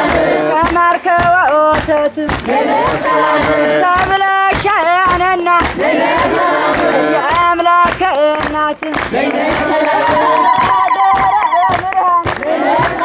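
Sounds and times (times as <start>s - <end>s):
crowd singing a religious chant: 0.0s - 13.0s
rhythmic hand clapping: 0.0s - 13.0s.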